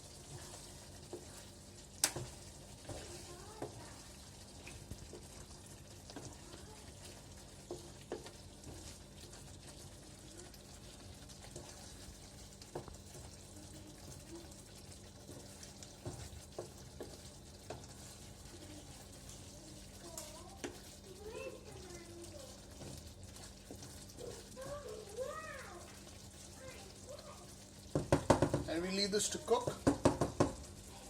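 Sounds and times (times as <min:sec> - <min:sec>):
gravy sizzling faintly in a pan: 0:00.0 - 0:31.0.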